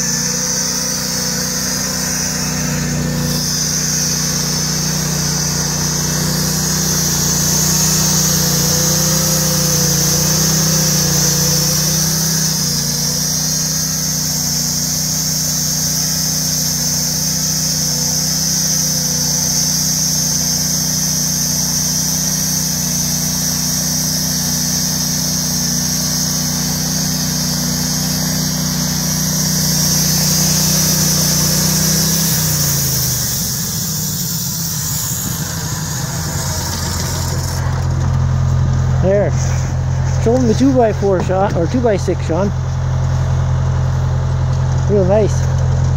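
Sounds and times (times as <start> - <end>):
band blade sawing log: 0.0 - 43.4, 44.5 - 45.9
sawmill engine running: 0.0 - 45.9.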